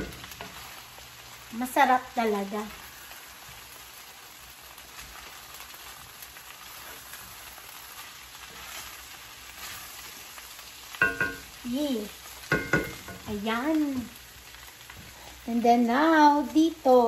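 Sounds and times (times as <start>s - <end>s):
chicken sizzling in frying pan: 0.0s - 17.0s
spatula stirring ticks: 0.0s - 17.0s.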